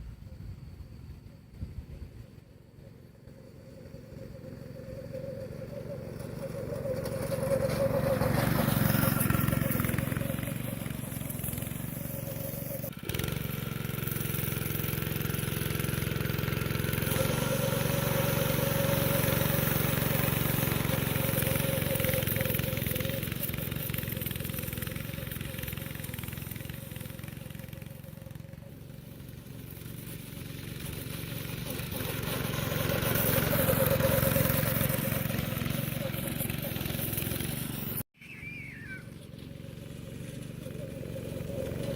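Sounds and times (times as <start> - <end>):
go-kart engine running: 0.8 - 41.9.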